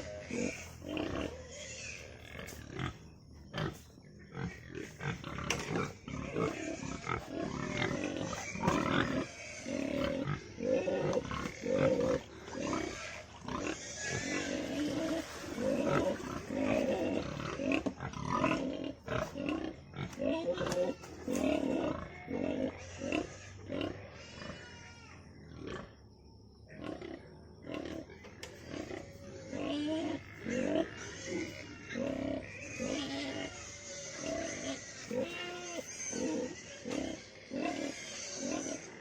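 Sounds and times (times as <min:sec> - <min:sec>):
pigs squealing and grunting: 0:00.0 - 0:26.0, 0:26.7 - 0:39.0.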